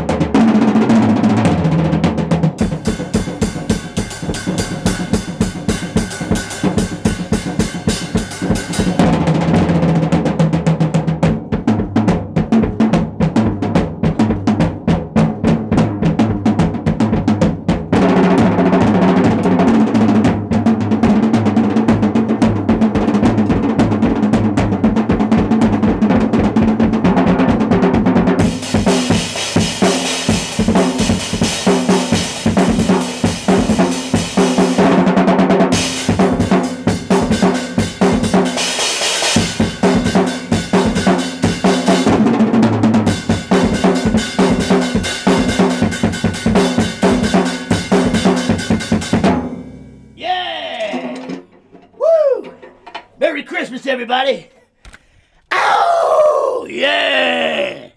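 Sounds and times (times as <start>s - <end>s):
fast drum kit solo: 0.0s - 51.6s.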